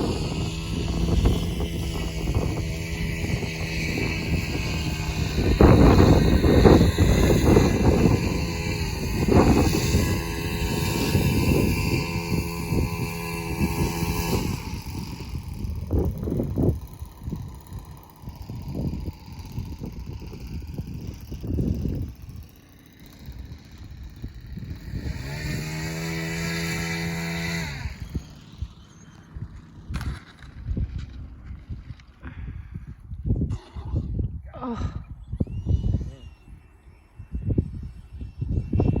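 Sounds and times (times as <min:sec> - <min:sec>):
electric fan motors buzzing: 0:00.0 - 0:33.5
wind gusts on microphone: 0:00.0 - 0:39.0.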